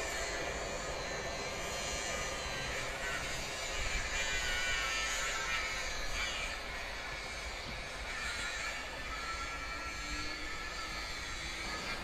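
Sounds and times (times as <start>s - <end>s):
electric traction whine: 0.0s - 12.0s
train wheels rumbling on rails: 0.0s - 12.0s.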